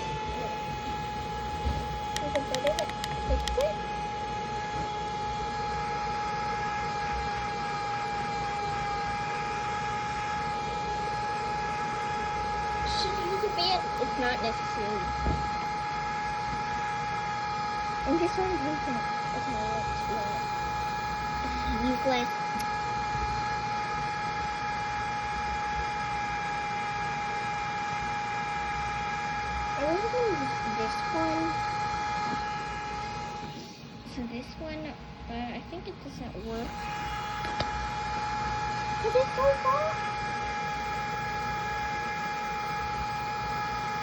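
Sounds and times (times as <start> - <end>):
electric blower rushing air: 0.0 - 44.0
high motor whine: 0.0 - 44.0.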